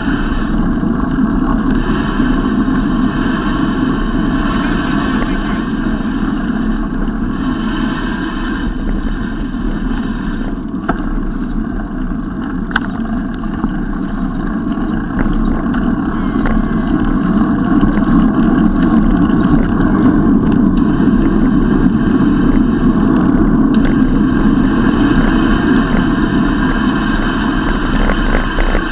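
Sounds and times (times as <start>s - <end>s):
wind rumble on microphone: 0.0s - 28.9s.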